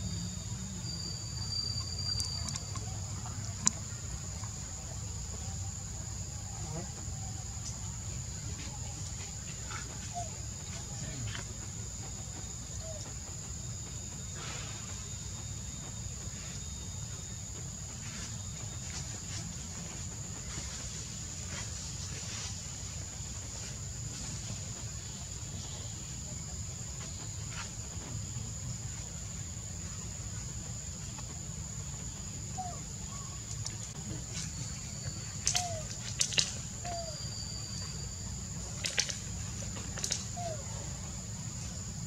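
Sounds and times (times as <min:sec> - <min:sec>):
insects droning: 0:00.0 - 0:42.0
low steady rumble: 0:00.0 - 0:42.0.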